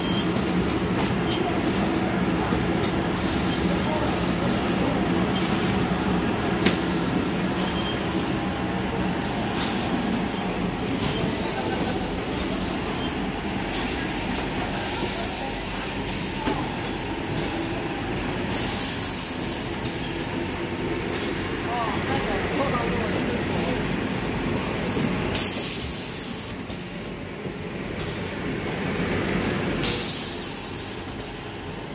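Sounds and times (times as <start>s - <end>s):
boxes rolling on roller conveyor: 0.0s - 31.9s
packing machine hum: 0.0s - 31.9s.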